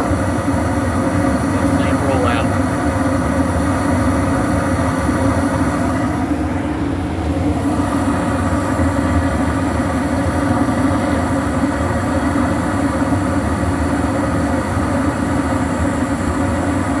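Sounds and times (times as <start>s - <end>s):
gas furnace rumbling: 0.0s - 17.0s.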